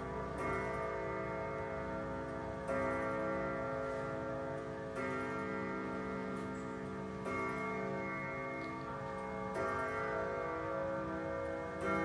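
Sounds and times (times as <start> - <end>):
grandfather clock striking: 0.0 - 12.0.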